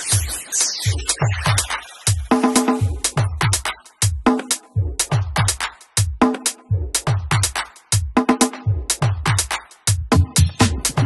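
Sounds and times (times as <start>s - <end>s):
electronic house music: 0.0s - 11.0s.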